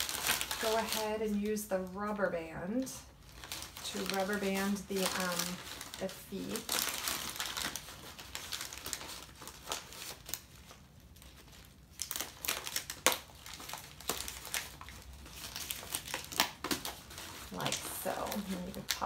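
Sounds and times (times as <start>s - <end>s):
paper bag crinkling: 0.0s - 1.6s, 3.2s - 19.0s.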